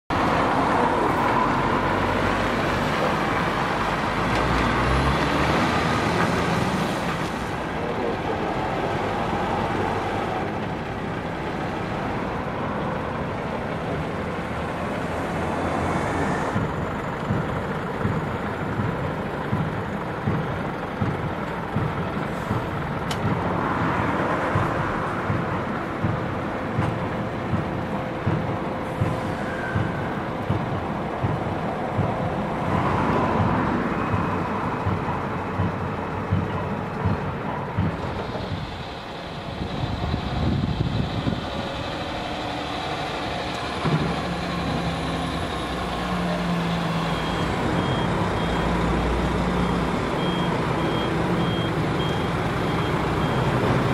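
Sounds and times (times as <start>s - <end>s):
diesel truck engine running: 0.1s - 53.9s.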